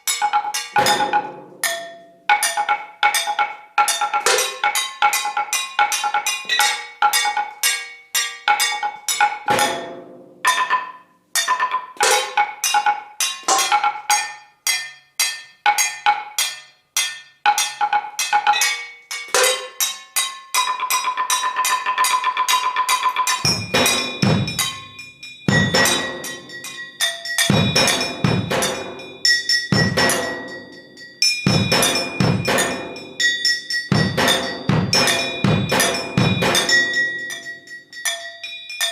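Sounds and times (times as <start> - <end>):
percussion on struck metal: 0.0 - 38.9.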